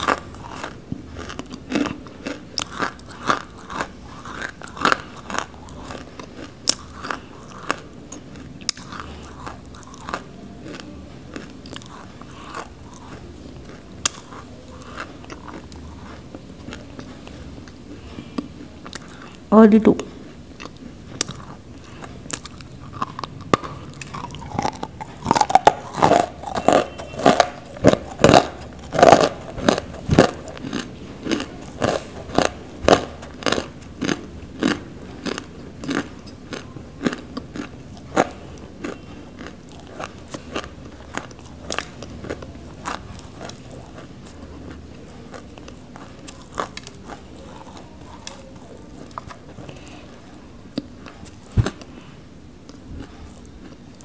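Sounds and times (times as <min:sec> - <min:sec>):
biting and chewing clay crunches: 0:00.0 - 0:19.5, 0:20.2 - 0:54.0.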